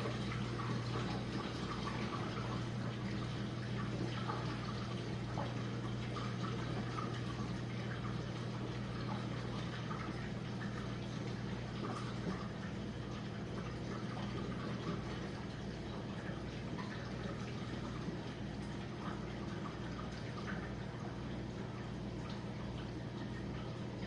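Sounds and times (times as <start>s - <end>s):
dishwasher motor hum: 0.0s - 24.0s
water splashing and sloshing: 0.0s - 24.0s.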